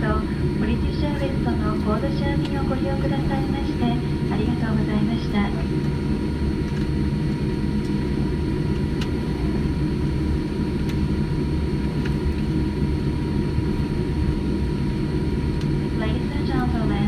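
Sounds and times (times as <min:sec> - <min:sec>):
airplane cabin rumble: 0:00.0 - 0:17.0
faint steady whine: 0:00.0 - 0:17.0.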